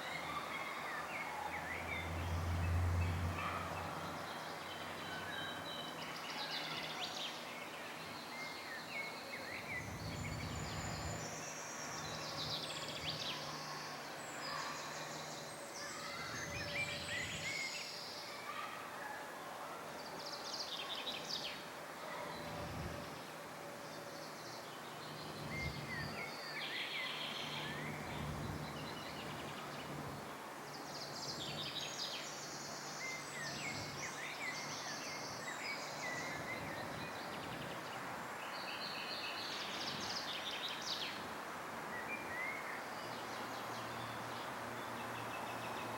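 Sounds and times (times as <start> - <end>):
birds chirping and trilling: 0.0 - 18.7, 20.0 - 41.2
steady background hiss: 0.0 - 45.9.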